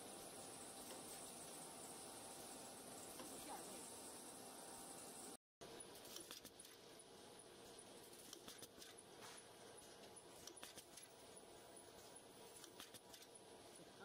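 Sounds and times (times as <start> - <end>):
faint machine running: 0.0 - 14.0.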